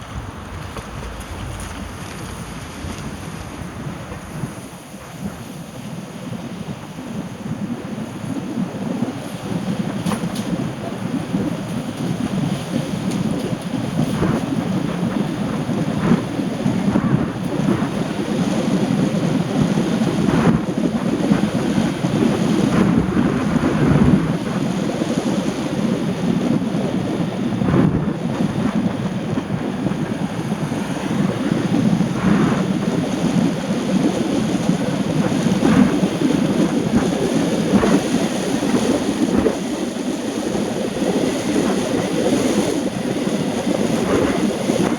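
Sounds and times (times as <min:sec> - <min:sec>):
rain: 0:00.0 - 0:44.9
wind: 0:00.0 - 0:44.9.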